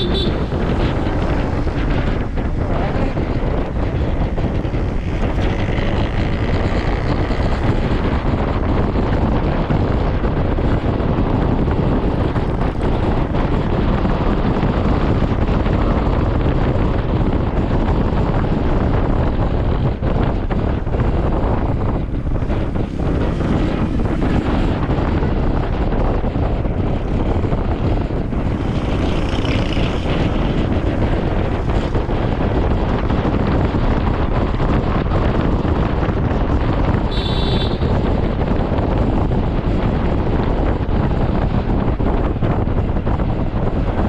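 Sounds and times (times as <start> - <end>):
scooter engine and road noise: 0.0 - 44.0
wind buffeting microphone: 0.0 - 44.0.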